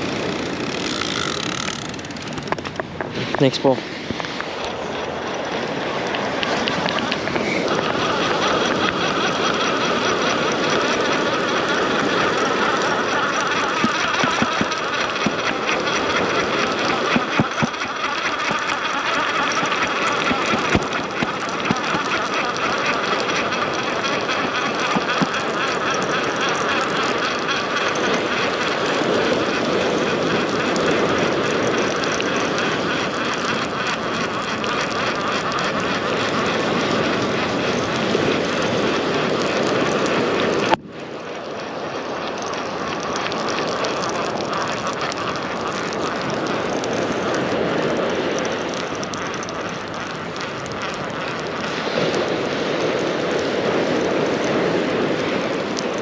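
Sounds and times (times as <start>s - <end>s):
surf at shoreline: 0.0s - 56.0s
wind: 0.0s - 56.0s.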